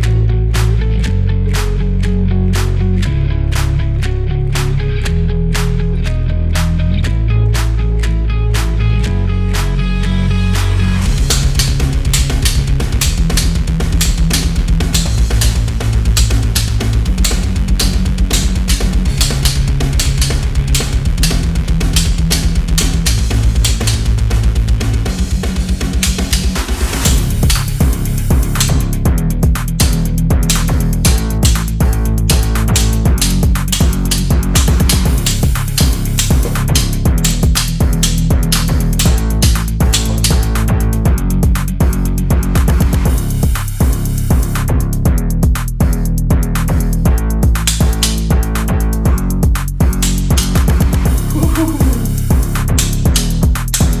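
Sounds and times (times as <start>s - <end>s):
music with bass and guitar: 0.0s - 54.0s.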